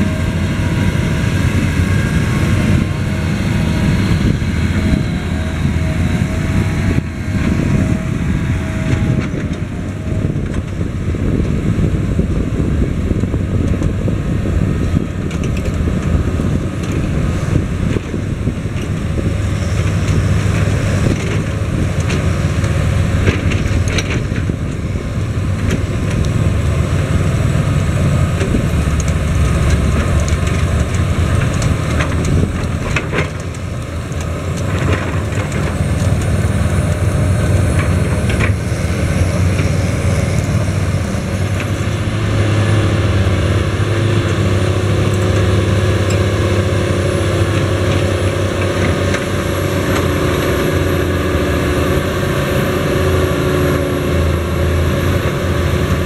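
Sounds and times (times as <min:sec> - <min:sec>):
tractor diesel engines droning: 0:00.0 - 0:56.0.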